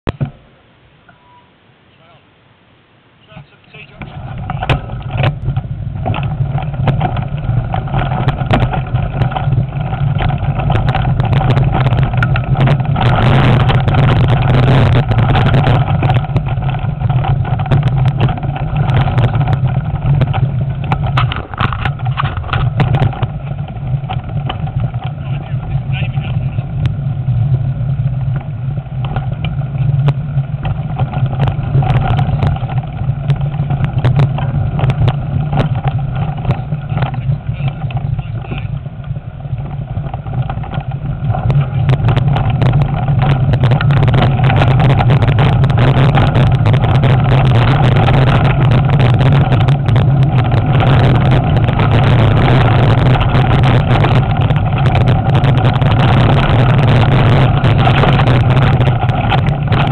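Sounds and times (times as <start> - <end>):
bike rattling over rough trail: 3.2 - 59.9
wind buffeting microphone: 3.7 - 59.9.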